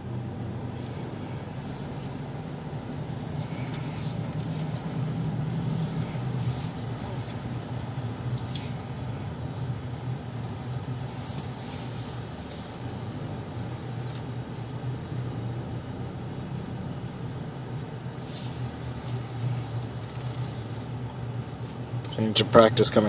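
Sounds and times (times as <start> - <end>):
car engine and tyres hum: 0.0 - 23.0.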